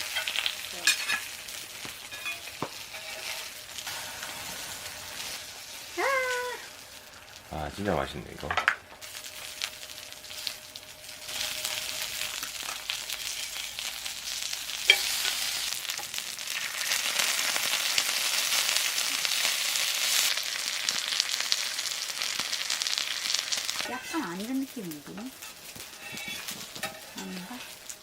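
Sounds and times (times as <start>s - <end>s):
food sizzling in hot pan: 0.0s - 28.0s.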